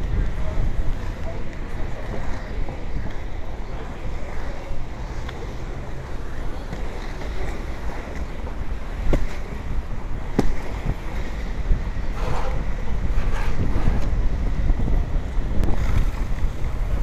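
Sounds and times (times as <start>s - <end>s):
skate wheels rolling on pavement: 0.0s - 14.2s
wind rushing over microphone: 0.0s - 17.0s.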